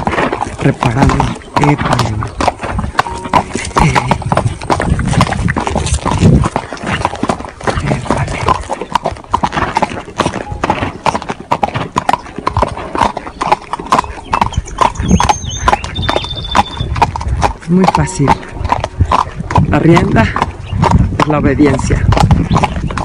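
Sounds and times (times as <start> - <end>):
horse hooves clopping on gravel: 0.0 - 23.0.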